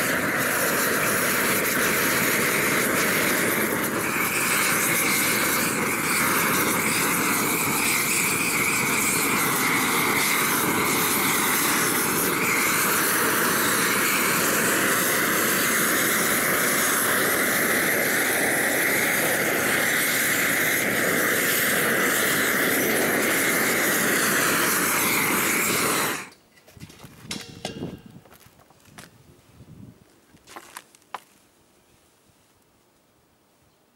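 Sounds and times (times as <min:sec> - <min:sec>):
gas torch burning: 0:00.0 - 0:29.1.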